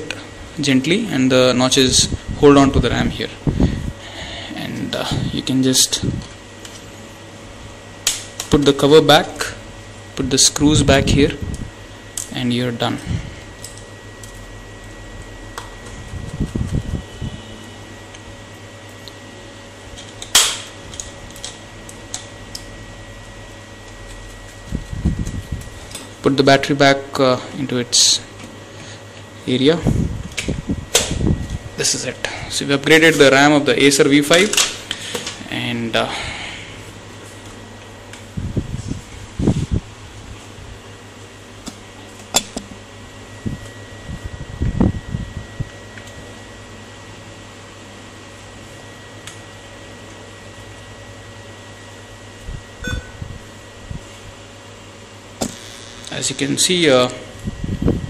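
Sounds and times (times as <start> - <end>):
fan hum: 0.0 - 58.0.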